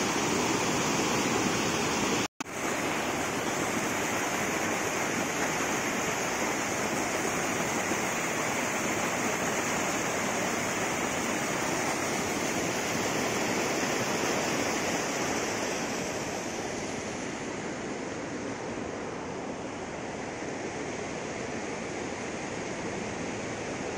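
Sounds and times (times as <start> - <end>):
river rushing through rapids: 0.0 - 23.9.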